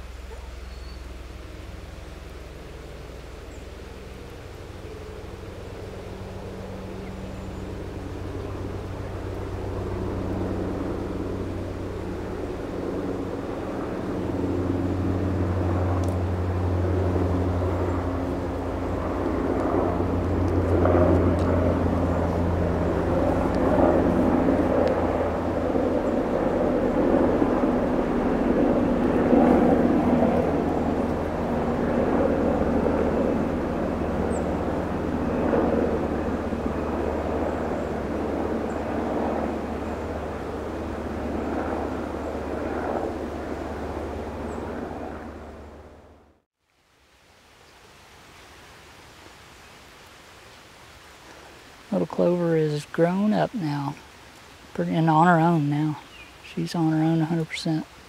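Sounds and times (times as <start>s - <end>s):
engine drone: 0.0s - 46.5s.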